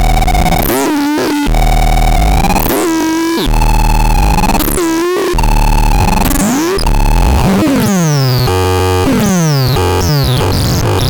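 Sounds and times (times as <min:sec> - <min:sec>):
buzzy synthesizer tones: 0:00.0 - 0:11.0.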